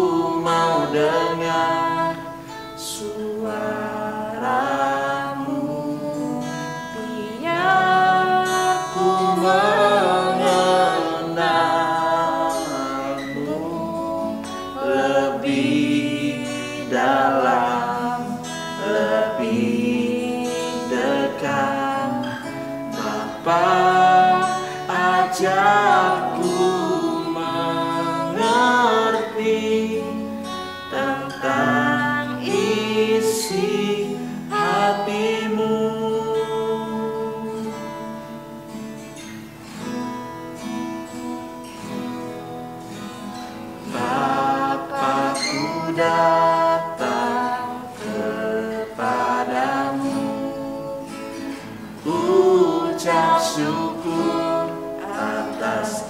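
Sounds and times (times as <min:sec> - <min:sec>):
person singing worship song: 0:00.0 - 0:39.4, 0:43.6 - 0:56.0
acoustic guitar: 0:00.0 - 0:56.0.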